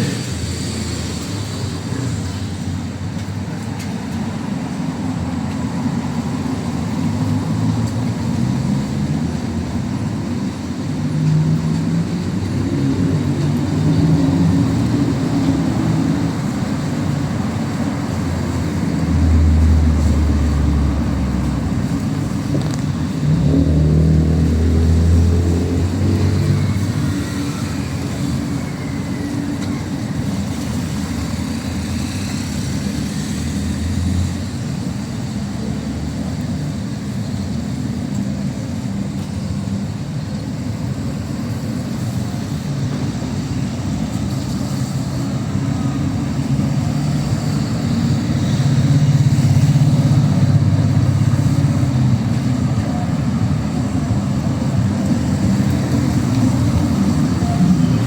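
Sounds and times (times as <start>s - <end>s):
cars passing: 0.0s - 58.0s
steady street hum: 0.0s - 58.0s.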